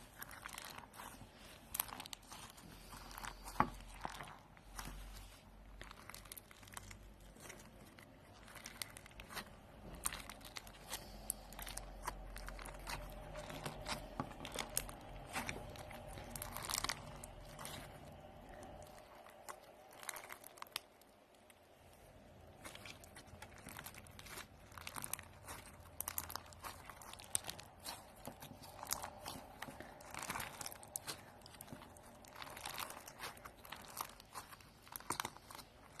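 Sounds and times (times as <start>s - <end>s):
crinkling and crunching: 0.0s - 36.0s.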